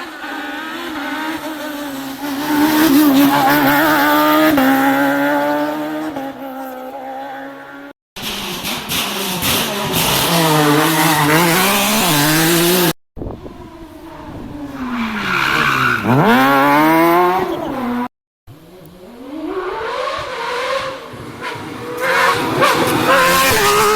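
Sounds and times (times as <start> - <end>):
rally car engine at full throttle: 0.0 - 23.9.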